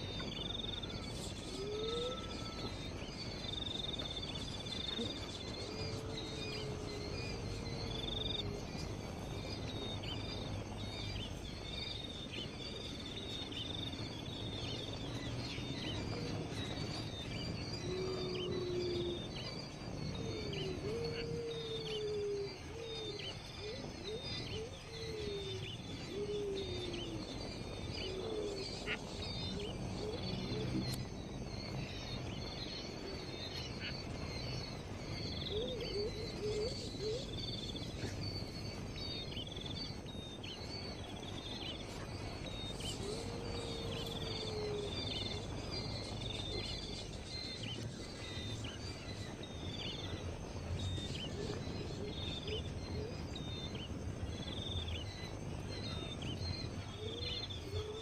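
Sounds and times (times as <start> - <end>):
background noise: 0.0 - 58.0.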